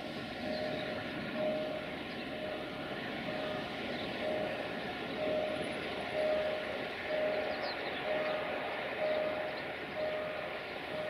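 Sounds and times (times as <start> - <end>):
diesel locomotive running: 0.0 - 11.0.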